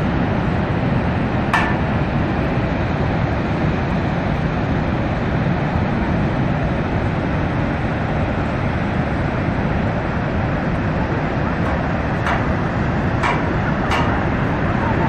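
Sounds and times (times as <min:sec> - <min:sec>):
roar of waterfall: 0:00.0 - 0:15.0.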